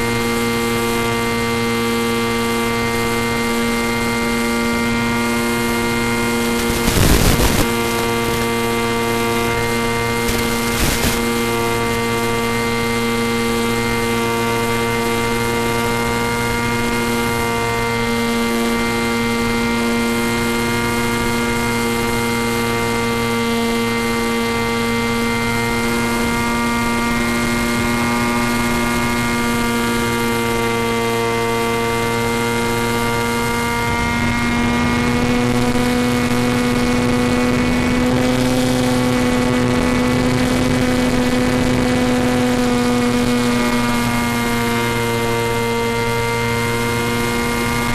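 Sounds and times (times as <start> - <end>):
model plane motor whine: 0.0 - 47.9.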